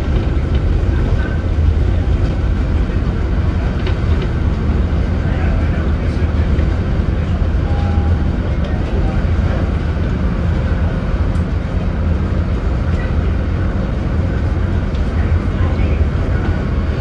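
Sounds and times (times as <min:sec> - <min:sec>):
bus diesel engine humming: 0:00.0 - 0:17.0.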